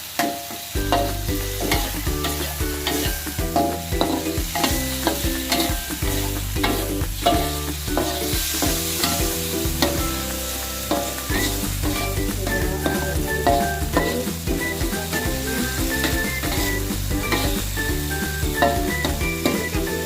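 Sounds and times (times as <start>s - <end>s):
background music with a beat: 0.0s - 20.0s
food sizzling in a frying pan: 0.0s - 20.0s
spatula scraping a pan: 1.0s - 12.2s, 15.1s - 20.0s.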